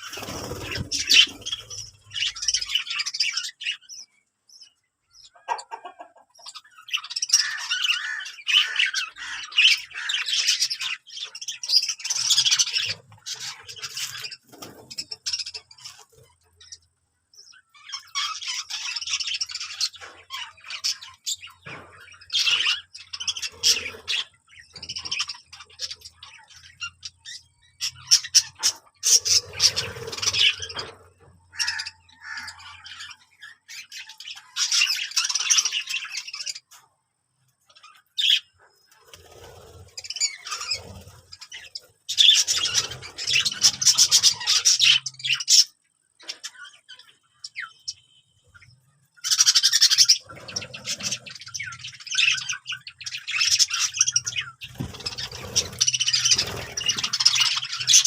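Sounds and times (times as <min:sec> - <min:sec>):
birds chirping and squawking: 0:00.0 - 0:58.0.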